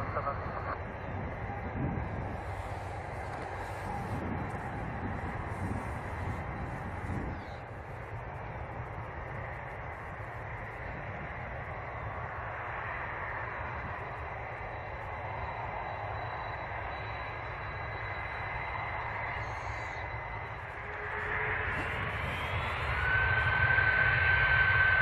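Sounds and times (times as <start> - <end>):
high whine: 0.0 - 25.0
jet engines running: 0.0 - 25.0.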